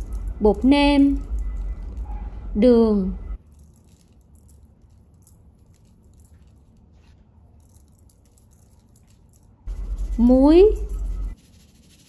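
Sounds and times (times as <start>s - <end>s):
sugar grains pattering: 0.0s - 2.1s, 3.4s - 12.0s
low steady hum: 0.0s - 11.4s.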